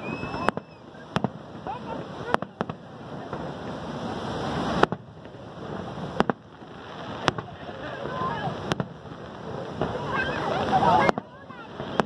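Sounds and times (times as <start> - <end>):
fireworks exploding: 0.0 - 12.0
waterfall roaring: 0.0 - 12.0.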